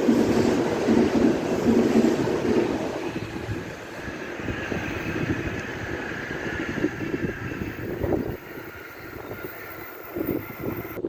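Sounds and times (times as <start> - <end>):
train rumbling by: 0.0 - 11.0
wind buffeting microphone: 0.0 - 11.0.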